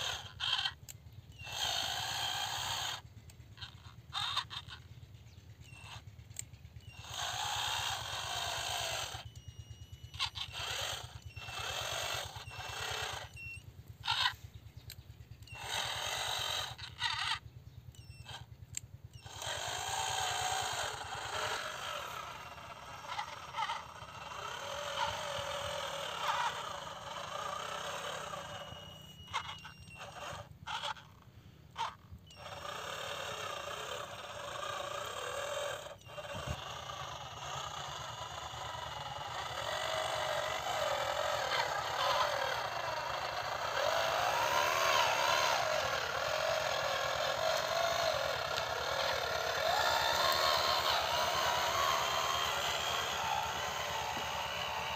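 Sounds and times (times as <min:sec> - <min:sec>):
electric gear motors whining: 0:00.0 - 0:54.9.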